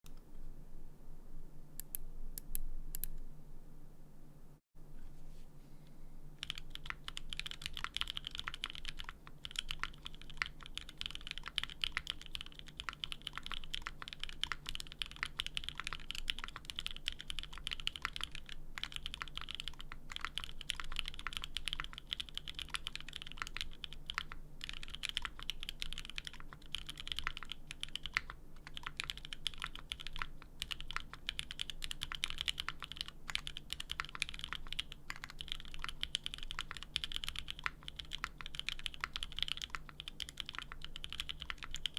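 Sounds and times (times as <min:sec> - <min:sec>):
fast mechanical keyboard typing: 0:06.4 - 0:41.9.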